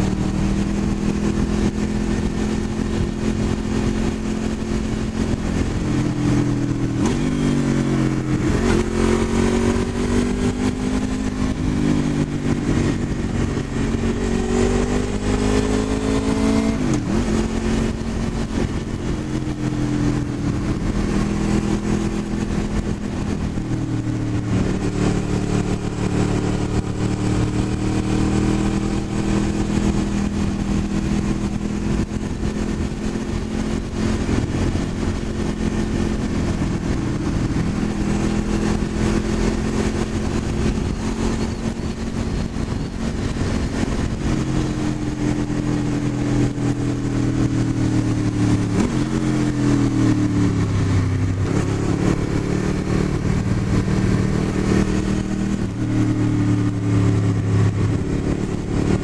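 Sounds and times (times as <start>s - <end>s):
motorcycle engine: 0.0s - 59.0s
wind and road noise: 0.0s - 59.0s.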